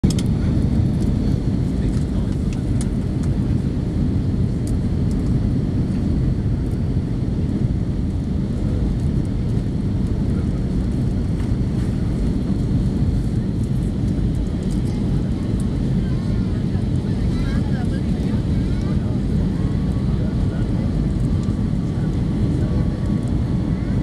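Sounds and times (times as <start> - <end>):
engine and airflow rumble: 0.0 - 24.0.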